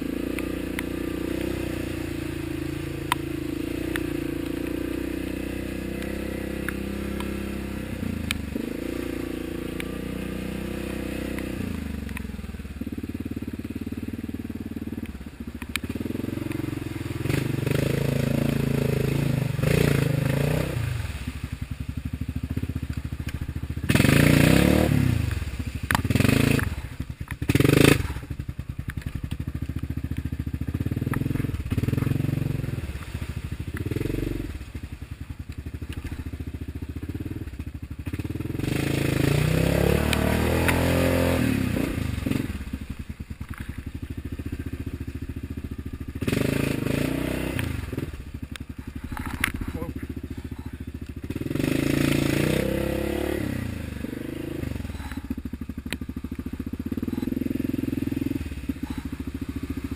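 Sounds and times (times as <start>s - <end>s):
atv engine revving: 0.0s - 59.9s
muddy water splashing: 0.0s - 59.9s.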